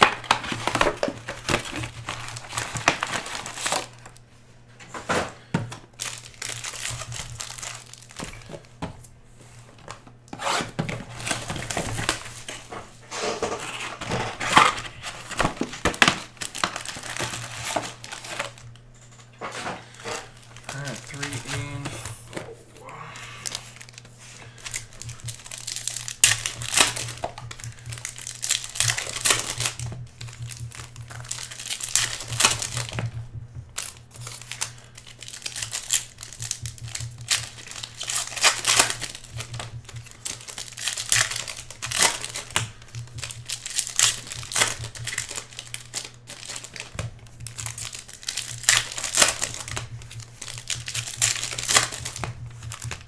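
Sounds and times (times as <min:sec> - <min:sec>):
foil wrappers tearing and crinkling: 0:00.0 - 0:04.3, 0:05.4 - 0:08.8, 0:10.3 - 0:18.8, 0:19.5 - 0:22.5, 0:23.4 - 0:33.1, 0:33.8 - 0:53.0
steady low hum: 0:00.0 - 0:53.0.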